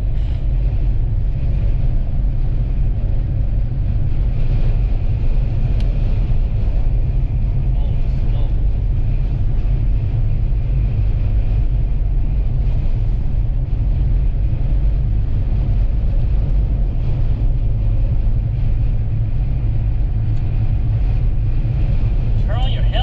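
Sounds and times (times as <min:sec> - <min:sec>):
vehicle cabin road noise: 0:00.0 - 0:23.0.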